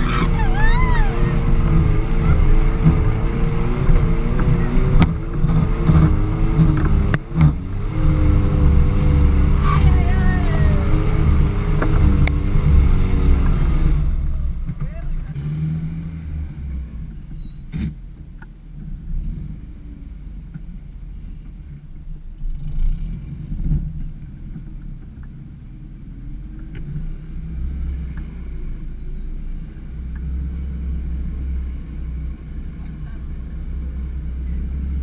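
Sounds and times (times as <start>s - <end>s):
off-road vehicle engine running: 0.0s - 35.0s.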